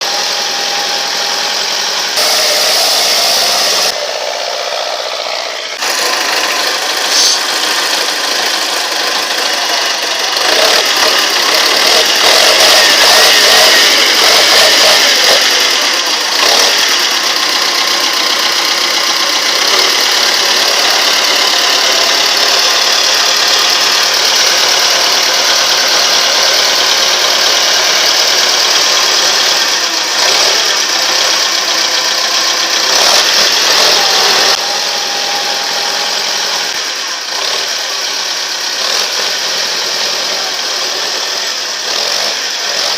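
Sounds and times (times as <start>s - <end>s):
tractor engine running hard: 0.0s - 42.9s.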